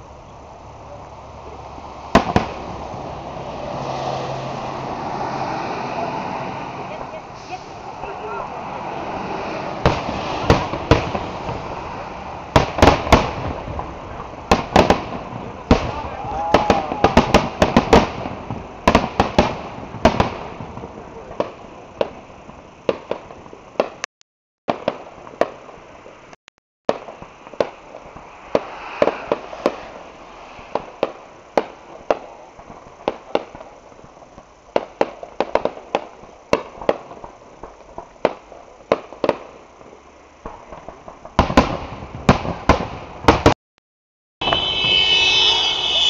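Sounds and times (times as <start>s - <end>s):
fireworks bursting: 0.0s - 24.1s, 24.7s - 43.6s, 44.4s - 46.0s.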